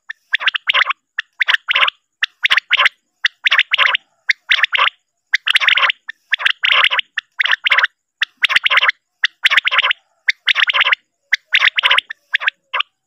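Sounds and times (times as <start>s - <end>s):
quail calling: 0.0s - 13.0s.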